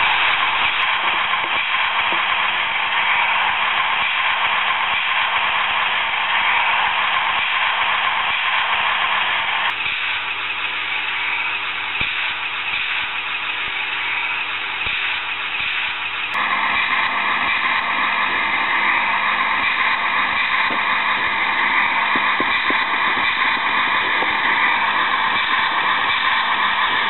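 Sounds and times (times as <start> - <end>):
model diesel engine sound: 0.0 - 27.0.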